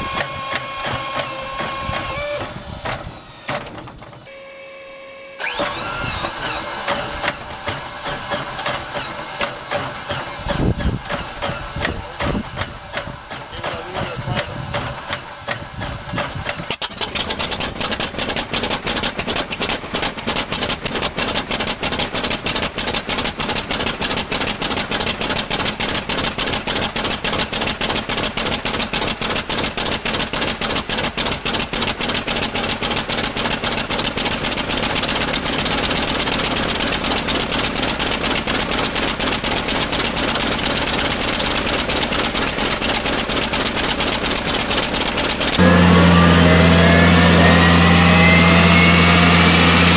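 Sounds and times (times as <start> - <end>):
radial piston engine starting: 5.4 - 49.9.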